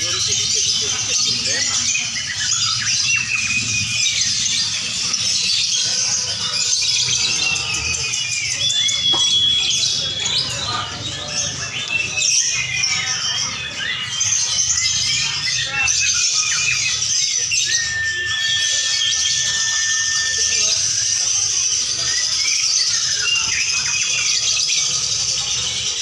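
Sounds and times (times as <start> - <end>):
birds chattering and trilling: 0.0 - 26.0
murmur of voices: 0.0 - 26.0.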